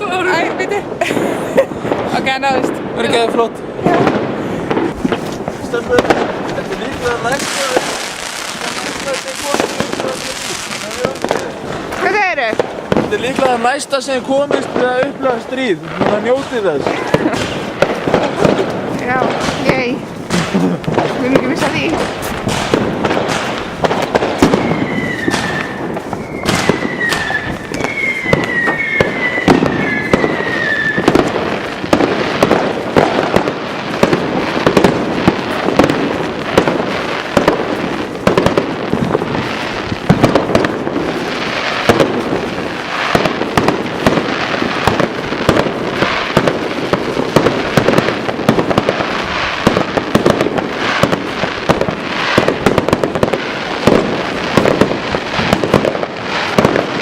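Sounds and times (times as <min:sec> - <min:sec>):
fireworks bangs and crackle: 0:00.0 - 0:57.0
whistling fireworks: 0:00.0 - 0:57.0.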